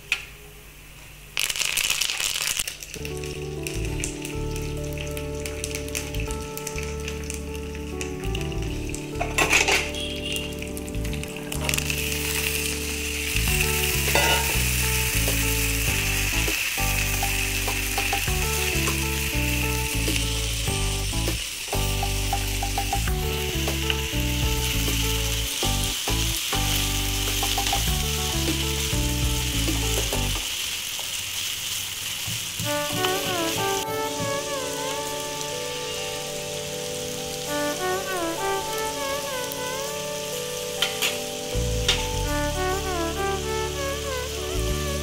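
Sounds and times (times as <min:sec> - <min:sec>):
potatoes sizzling in oil: 0:01.4 - 0:45.0
low-note tune: 0:03.0 - 0:30.4, 0:32.6 - 0:45.0.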